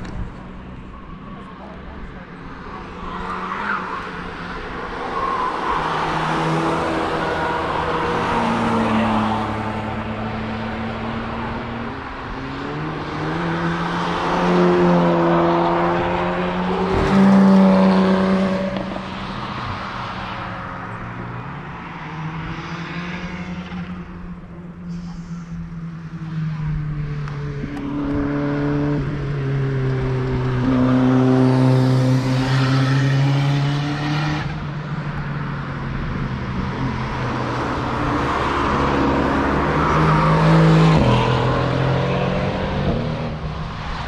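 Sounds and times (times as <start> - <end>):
cars passing at speed: 0.0 - 44.0.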